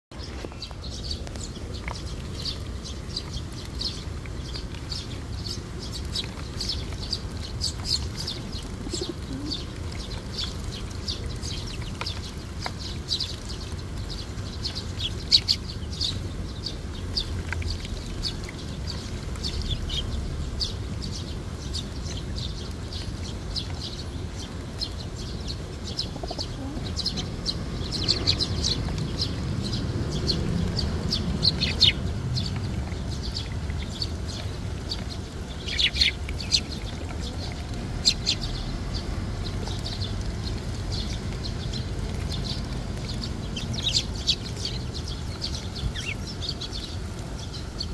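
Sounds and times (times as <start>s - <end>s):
sparrows chirping: 0.1s - 47.9s.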